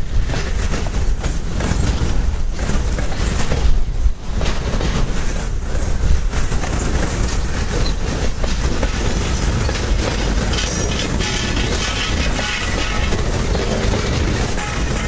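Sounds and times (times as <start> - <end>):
steel wheels clattering on rails: 0.0 - 15.0
train heavy rumble: 0.0 - 15.0.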